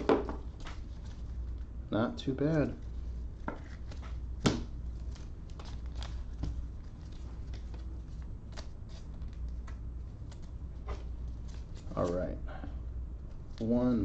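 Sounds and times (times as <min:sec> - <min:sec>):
plastic sleeves rustling: 0:00.0 - 0:01.7, 0:02.5 - 0:12.2
steady low hum: 0:00.0 - 0:14.0.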